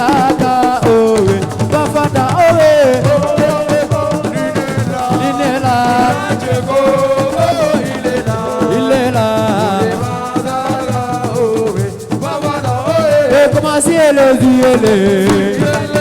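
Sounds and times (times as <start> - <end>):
hand percussion rhythm: 0.0 - 16.0
singing: 0.0 - 16.0.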